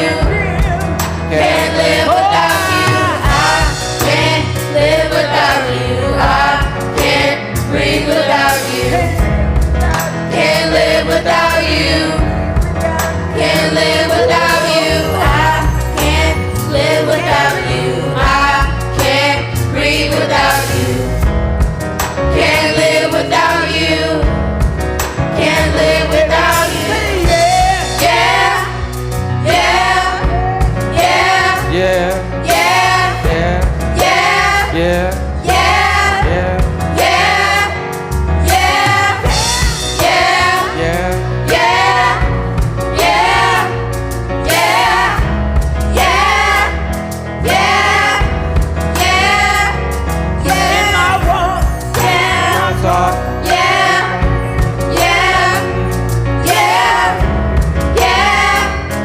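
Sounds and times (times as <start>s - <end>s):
singers holding sliding notes: 0.0s - 21.2s, 25.3s - 59.0s
band with steady beat: 0.0s - 59.0s.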